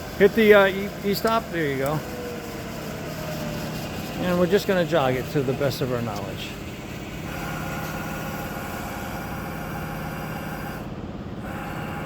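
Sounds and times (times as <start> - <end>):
milling machine motor whine: 0.0 - 12.0.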